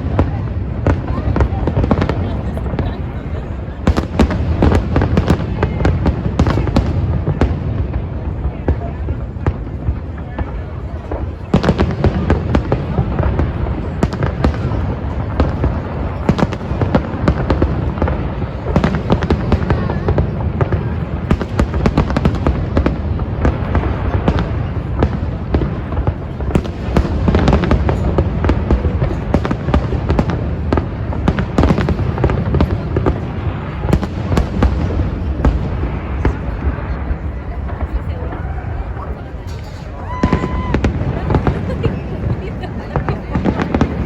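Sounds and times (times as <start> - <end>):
deep firework booms: 0.0 - 44.0
fireworks bangs and crackles: 0.0 - 44.0.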